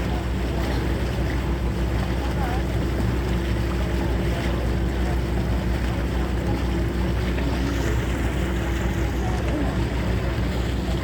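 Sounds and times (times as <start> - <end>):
ferry engine hum: 0.0 - 11.0
water rushing along hull: 0.0 - 11.0.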